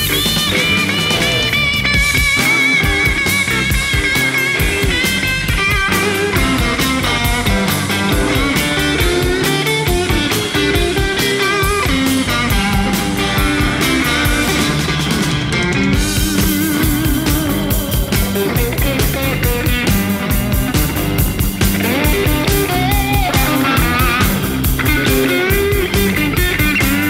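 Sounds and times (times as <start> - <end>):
bass: 0.0 - 27.0
electric guitar lead lines: 0.0 - 27.0
steady drum beat: 0.0 - 27.0.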